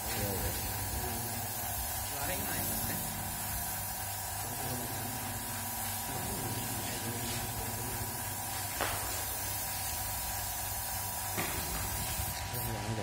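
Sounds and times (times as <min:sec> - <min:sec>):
spray gun hissing: 0:00.0 - 0:13.0.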